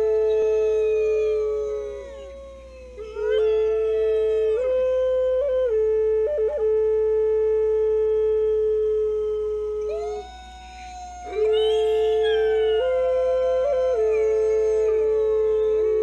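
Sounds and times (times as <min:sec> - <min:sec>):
wolf howling: 0:00.0 - 0:06.5, 0:09.1 - 0:16.0
flute playing slow melody: 0:00.0 - 0:16.0.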